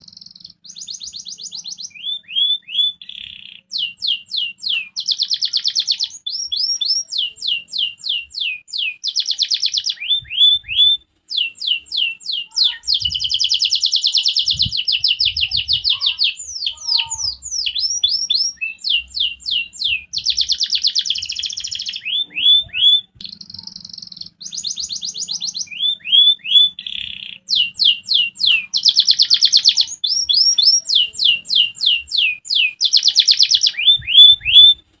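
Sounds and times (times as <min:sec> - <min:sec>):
canary singing trills: 0:00.0 - 0:35.0.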